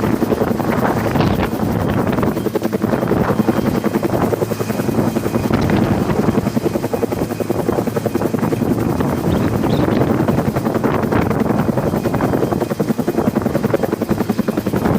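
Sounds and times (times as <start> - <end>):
helicopter rotor chopping: 0.0 - 14.9.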